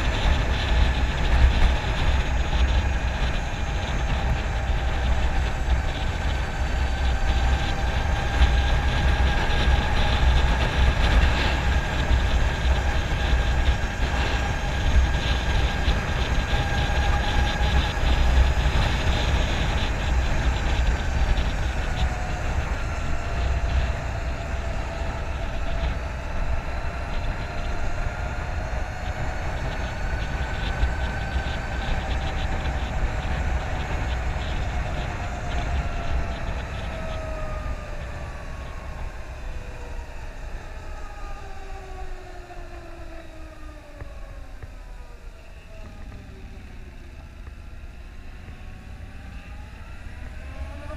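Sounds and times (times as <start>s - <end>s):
electric motorcycle whine: 0.0s - 50.9s
wind rumble on microphone: 0.0s - 50.9s.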